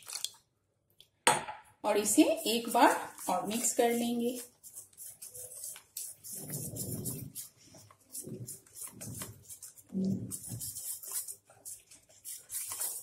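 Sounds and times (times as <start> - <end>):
whisk beating thick batter: 2.2 - 13.0.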